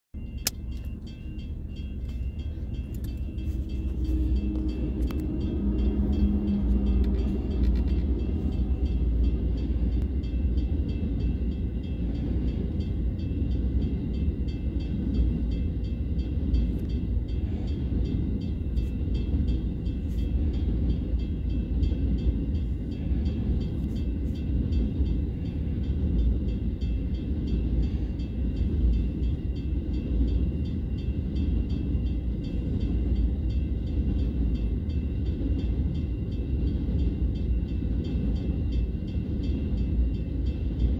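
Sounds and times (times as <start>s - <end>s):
diesel locomotive engine: 0.1s - 40.9s
crossing bell ringing: 0.2s - 40.9s
freight wagons rumbling on rails: 0.2s - 40.9s.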